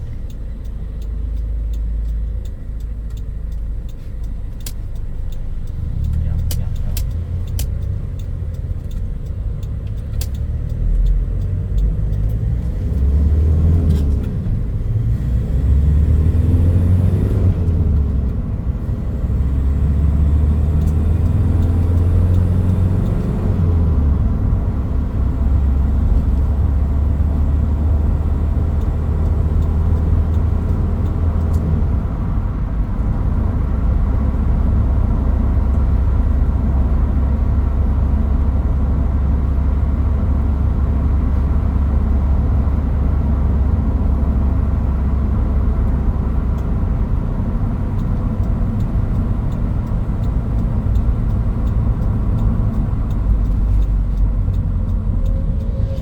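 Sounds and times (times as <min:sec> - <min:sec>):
pickup engine and road rumble: 0:00.0 - 0:56.0.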